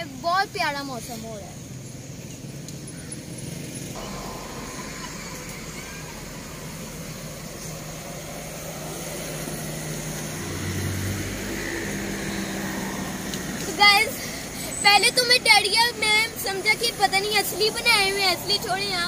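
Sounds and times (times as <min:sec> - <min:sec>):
cars driving past: 0:01.1 - 0:19.0
engine hum: 0:01.3 - 0:19.0.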